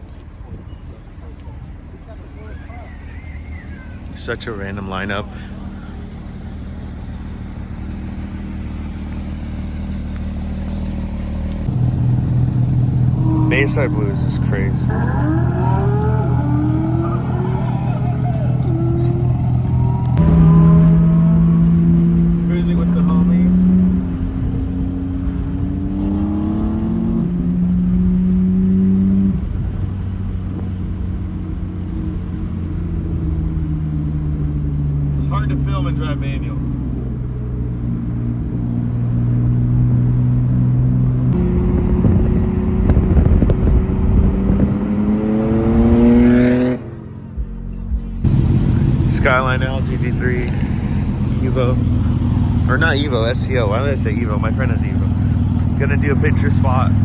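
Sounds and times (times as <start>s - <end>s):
car engine droning: 0.0s - 57.0s.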